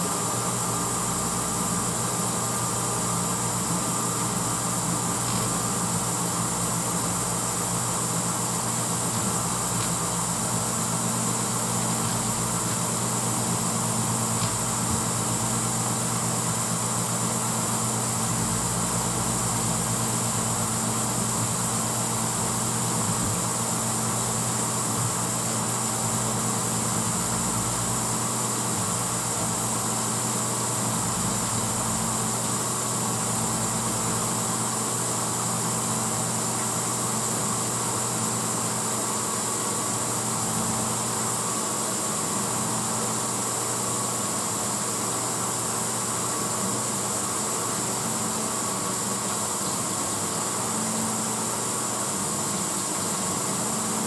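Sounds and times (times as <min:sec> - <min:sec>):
dishwasher motor hum: 0:00.0 - 0:54.0.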